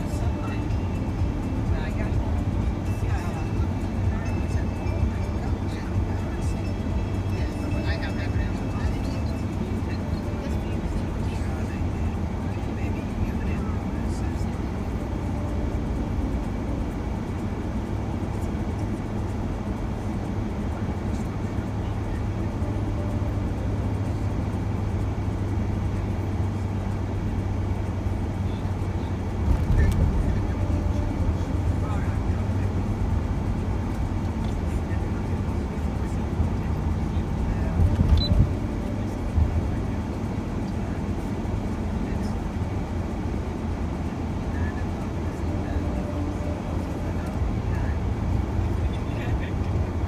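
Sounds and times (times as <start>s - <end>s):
road and engine noise in van: 0.0s - 50.0s.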